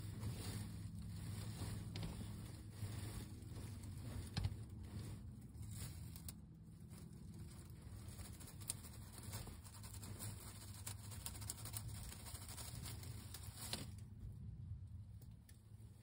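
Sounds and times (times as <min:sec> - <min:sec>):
nest bedding rustling: 0:00.0 - 0:14.0
low hum: 0:00.0 - 0:16.0.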